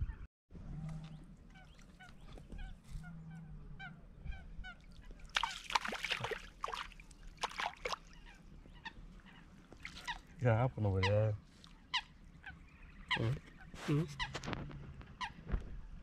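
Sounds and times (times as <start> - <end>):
faint chirping calls: 0.8 - 16.0
birds honking: 1.1 - 14.5.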